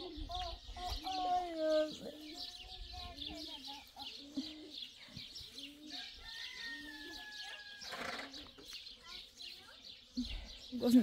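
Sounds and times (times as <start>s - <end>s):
birds chirping: 0.0s - 11.0s
lower-pitched bird calls: 0.0s - 11.0s.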